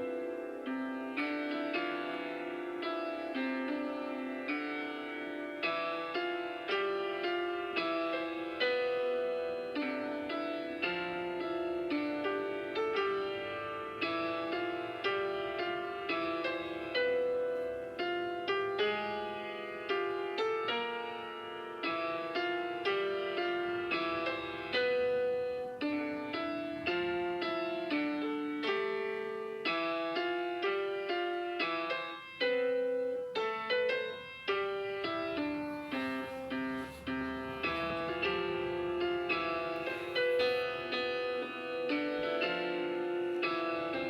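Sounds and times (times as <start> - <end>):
solo piano playing: 0.0 - 44.0.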